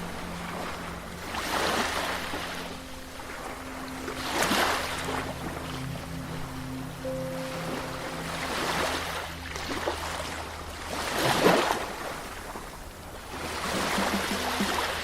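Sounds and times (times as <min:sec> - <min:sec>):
waves washing ashore: 0:00.0 - 0:15.0.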